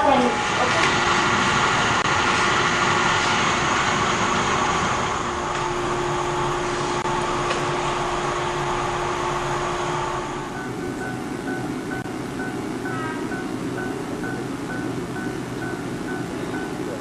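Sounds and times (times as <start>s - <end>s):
constant hum: 0.0s - 17.0s
electric train mechanical noise: 0.0s - 17.0s.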